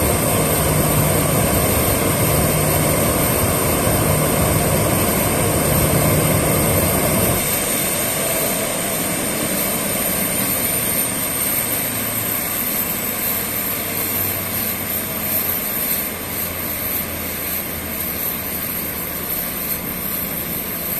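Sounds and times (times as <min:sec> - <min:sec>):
jet engines idling: 0:00.0 - 0:20.9.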